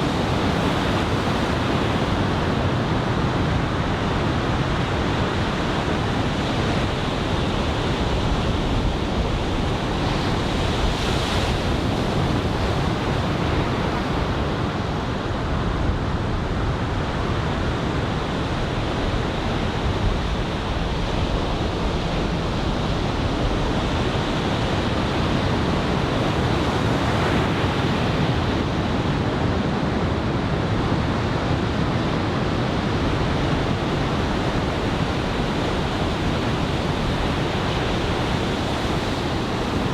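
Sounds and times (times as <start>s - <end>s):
ocean surf rushing: 0.0s - 39.9s
wind on microphone: 0.0s - 39.9s.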